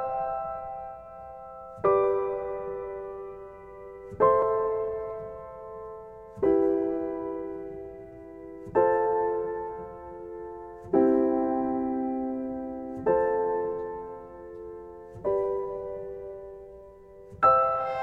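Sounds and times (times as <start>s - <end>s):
slow soft piano chords: 0.0s - 18.0s.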